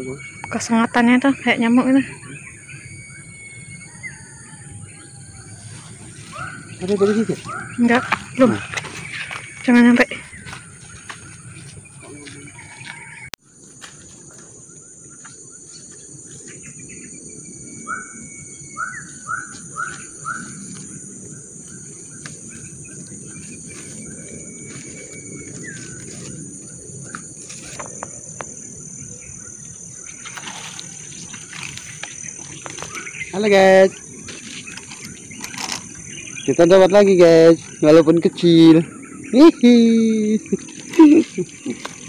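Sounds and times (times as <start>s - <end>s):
bird chirping: 0.0s - 13.4s, 14.2s - 42.0s
high-pitched insect drone: 0.0s - 42.0s.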